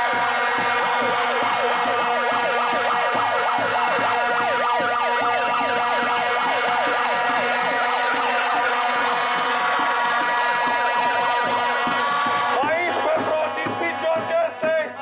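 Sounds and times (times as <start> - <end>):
megaphone sirens wailing: 0.0 - 15.0
plastic protest horns blaring: 0.0 - 15.0.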